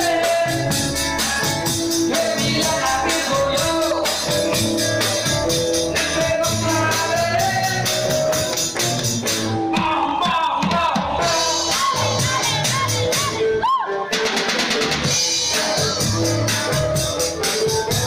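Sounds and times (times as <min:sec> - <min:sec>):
drums beating: 0:00.0 - 0:13.4, 0:14.1 - 0:18.0
live rock band playing: 0:00.0 - 0:18.0.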